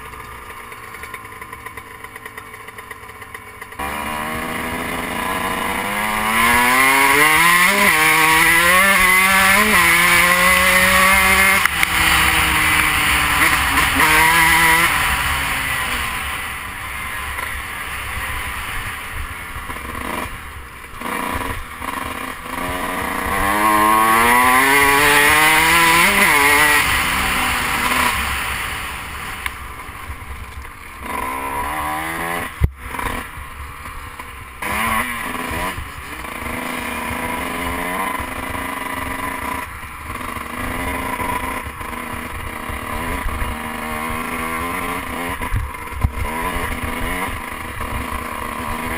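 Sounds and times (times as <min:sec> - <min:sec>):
dirt bike engine accelerating: 0:00.0 - 0:48.9.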